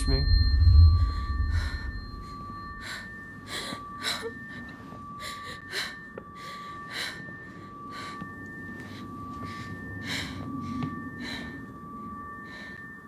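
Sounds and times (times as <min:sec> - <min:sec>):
high-pitched two-tone drone: 0:00.0 - 0:13.0.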